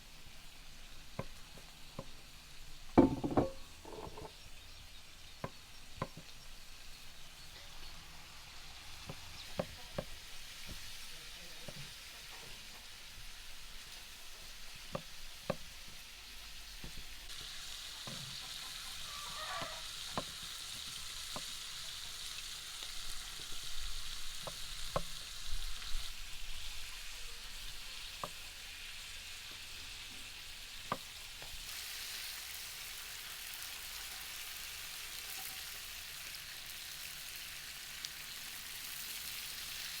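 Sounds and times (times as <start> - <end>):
food sizzling in hot fat: 0.0 - 40.0.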